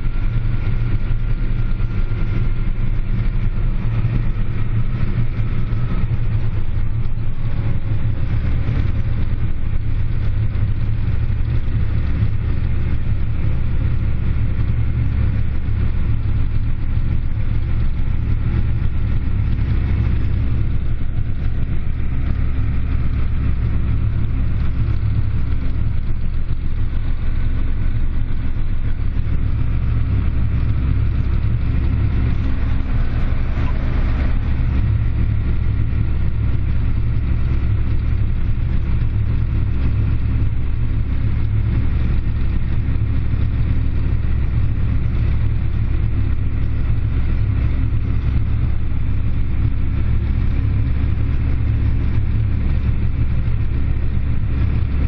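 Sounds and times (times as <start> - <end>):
tractor diesel engine drone: 0.0 - 55.0.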